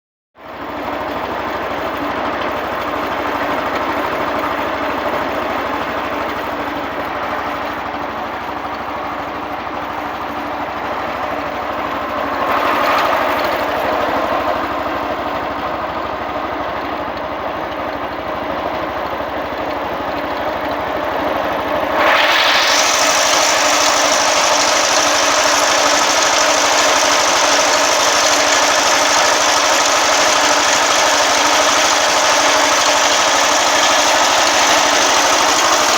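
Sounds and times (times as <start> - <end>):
garden tractor engine running: 0.4 - 35.9.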